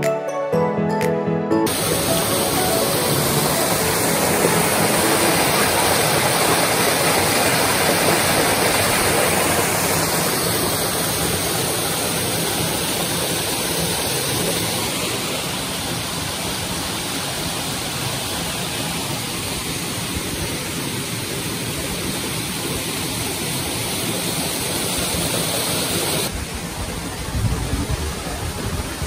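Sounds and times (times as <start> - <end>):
waterfall rushing over rocks: 1.7 - 29.0.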